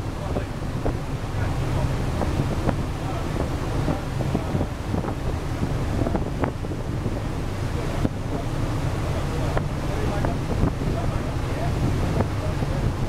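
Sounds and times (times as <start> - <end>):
low engine rumble: 0.0 - 13.0
sea rushing: 0.0 - 13.0
wind buffeting microphone: 0.0 - 13.0.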